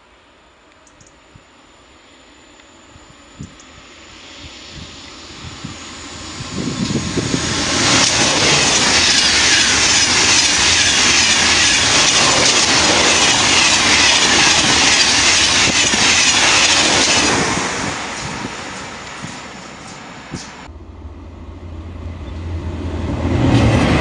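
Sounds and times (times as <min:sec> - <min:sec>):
high-speed train rushing past: 0:01.9 - 0:24.0.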